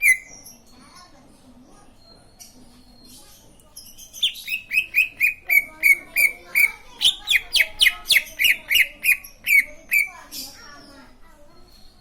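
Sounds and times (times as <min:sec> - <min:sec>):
bird chirping: 0:00.0 - 0:00.7, 0:02.0 - 0:12.0.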